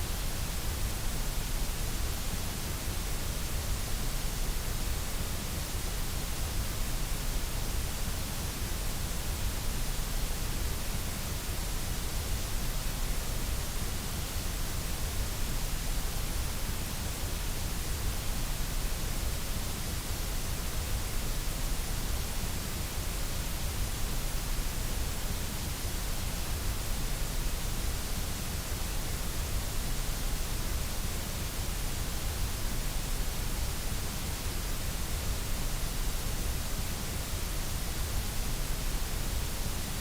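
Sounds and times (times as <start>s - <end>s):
white noise hiss: 0.0s - 40.0s.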